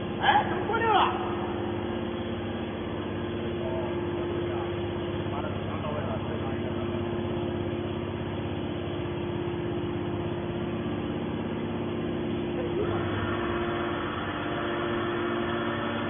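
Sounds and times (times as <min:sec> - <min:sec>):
baler motor and pump humming: 0:00.0 - 0:16.0.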